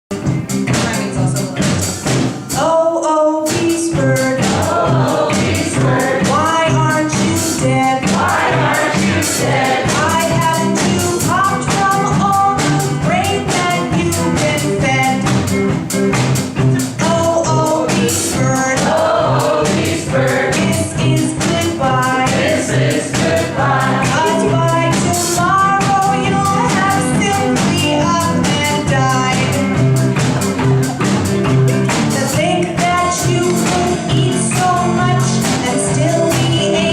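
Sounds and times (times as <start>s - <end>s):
drum kit beat: 0.1s - 36.9s
guitar: 0.1s - 36.9s
woman singing lead: 2.5s - 15.7s, 16.8s - 31.0s, 31.8s - 36.9s.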